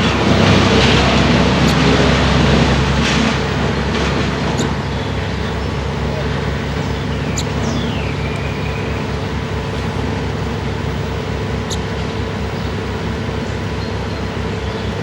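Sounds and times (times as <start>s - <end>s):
loud throbbing machine noise: 0.0s - 15.0s.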